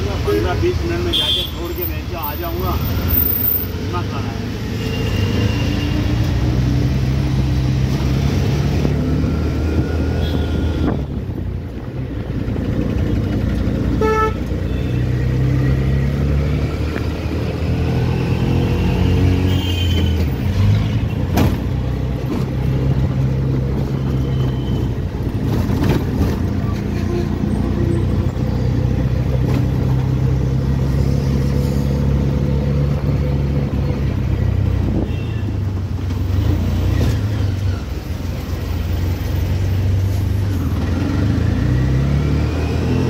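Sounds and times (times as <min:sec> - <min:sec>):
auto-rickshaw engine running: 0:00.0 - 0:43.0
traffic noise: 0:00.0 - 0:43.0.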